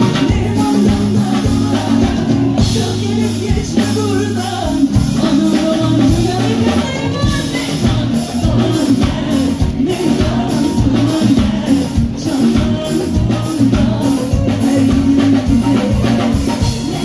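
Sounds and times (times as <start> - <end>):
drum kit beat: 0.0 - 17.0
electric guitar: 0.0 - 17.0
woman singing: 0.0 - 17.0.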